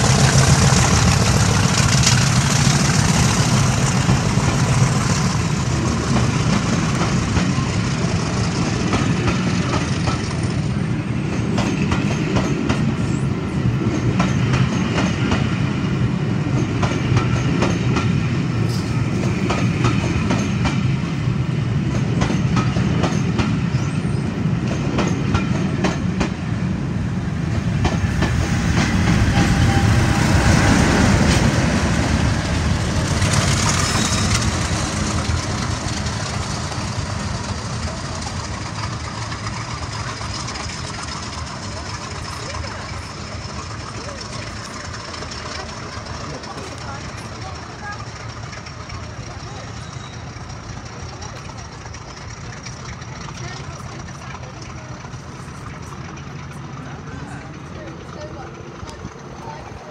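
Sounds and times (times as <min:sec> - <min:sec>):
train low rumble: 0:00.0 - 0:59.9
train wheels clicking over rail joints: 0:00.0 - 0:59.9.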